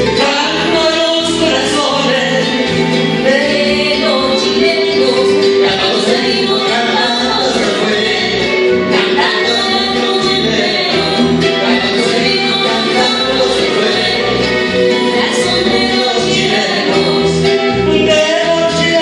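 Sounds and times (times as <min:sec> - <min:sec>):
amplified instrumental backing music: 0:00.0 - 0:19.0
man and woman singing duet: 0:00.0 - 0:19.0.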